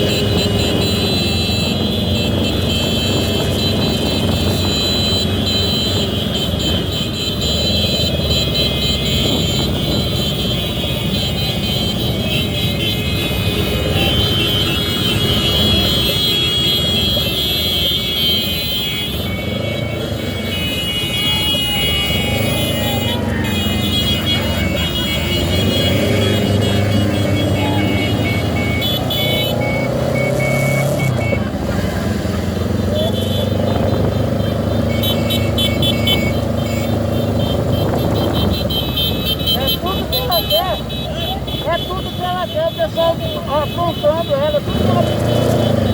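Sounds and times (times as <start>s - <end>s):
motorcycle and car engines rumbling: 0.0s - 45.9s.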